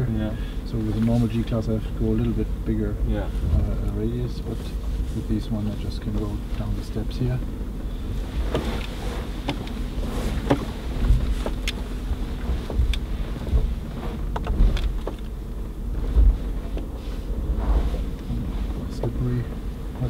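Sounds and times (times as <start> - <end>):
engine deep low rumble: 0.0 - 20.0.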